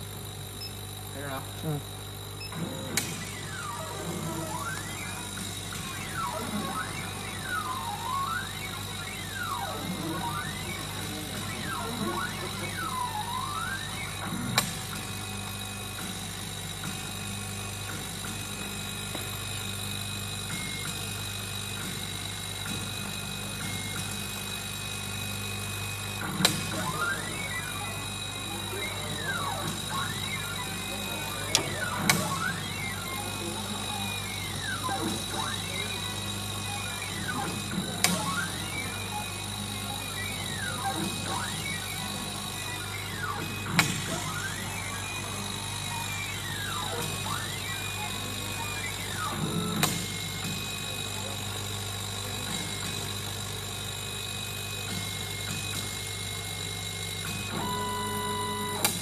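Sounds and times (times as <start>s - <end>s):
drive motors whining: 0.0s - 53.8s
machine steady hum: 0.0s - 59.0s.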